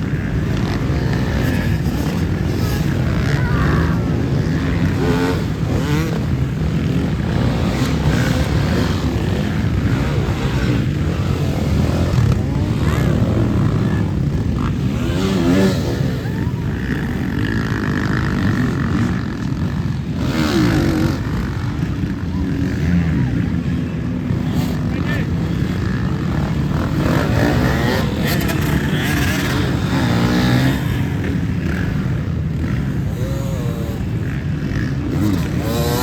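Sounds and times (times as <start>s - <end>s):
motorcycles revving past: 0.0s - 36.0s
off-road motorcycle engines droning: 0.0s - 36.0s.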